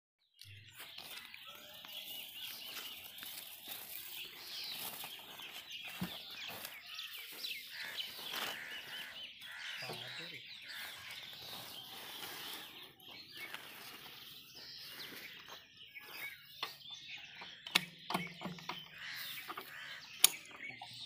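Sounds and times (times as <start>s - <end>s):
birds chirping: 0.2s - 21.0s.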